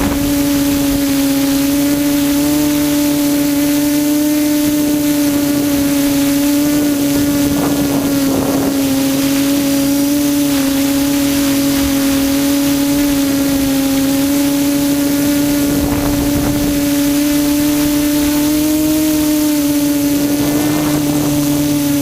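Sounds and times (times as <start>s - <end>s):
drone motors and propellers droning: 0.0s - 22.0s
wind noise on microphone: 0.0s - 22.0s.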